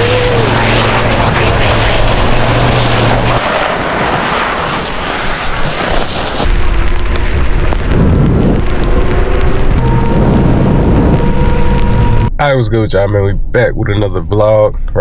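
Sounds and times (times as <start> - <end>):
loud rushing of driving in snow: 0.0 - 12.3
truck engine hum: 0.0 - 15.0.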